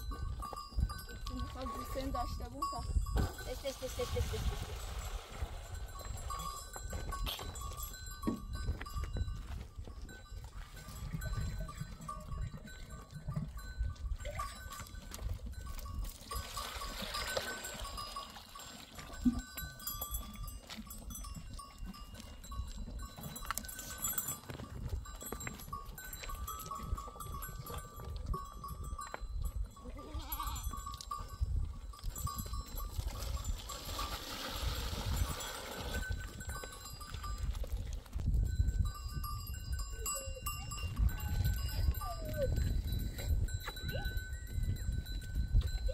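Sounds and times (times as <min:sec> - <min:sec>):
small animal bells clinking: 0:00.0 - 0:04.1, 0:05.5 - 0:34.3, 0:35.0 - 0:45.9
goats drinking at water: 0:00.0 - 0:45.9.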